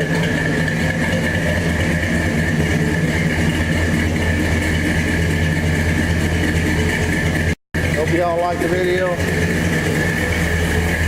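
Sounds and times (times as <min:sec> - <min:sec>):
pickup truck engine idling: 0:00.0 - 0:11.0.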